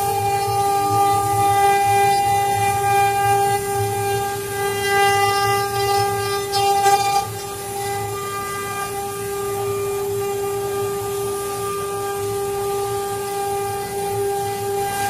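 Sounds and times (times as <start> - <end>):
engraving spindle whine: 0.0 - 15.0.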